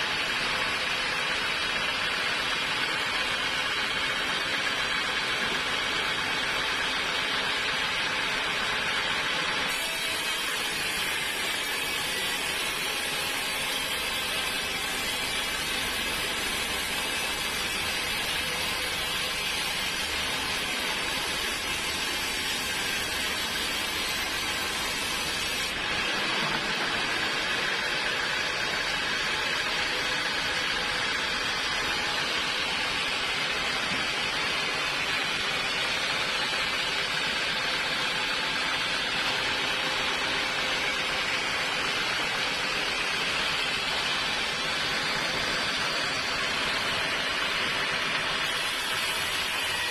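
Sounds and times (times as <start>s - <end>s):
sawmill machinery whirring: 0.0s - 49.9s.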